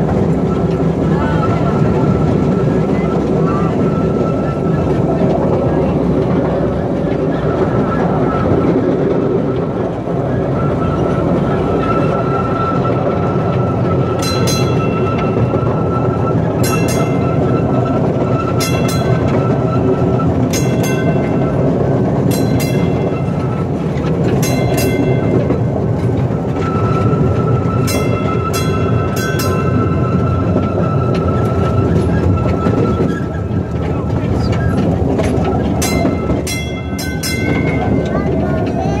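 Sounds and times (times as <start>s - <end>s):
wheels clacking with metallic ring: 0.0s - 39.0s
wheels rumbling on rail: 0.0s - 39.0s.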